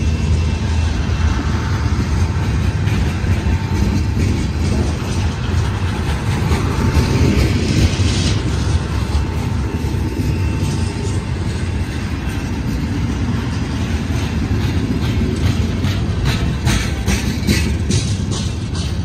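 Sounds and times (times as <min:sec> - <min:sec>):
steel wheels rumbling on rail: 0:00.0 - 0:19.0
wheel-on-rail clatter: 0:02.0 - 0:19.0.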